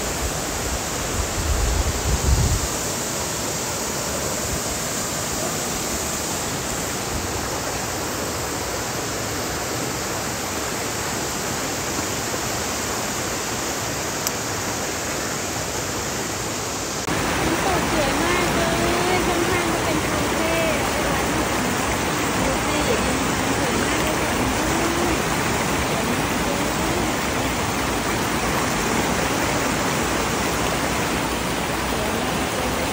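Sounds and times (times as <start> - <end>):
waterfall rushing over boulders: 0.0 - 32.9.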